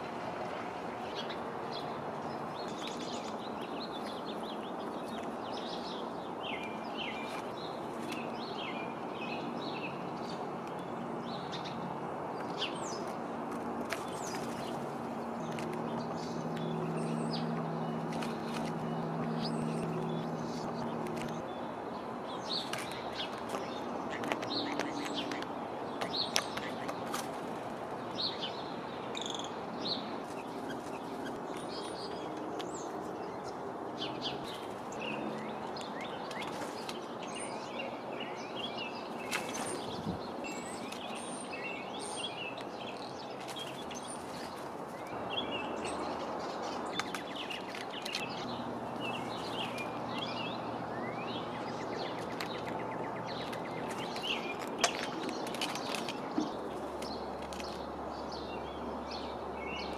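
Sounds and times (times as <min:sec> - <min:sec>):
outdoor background noise: 0:00.0 - 0:59.9
small birds chirping: 0:00.0 - 0:59.9.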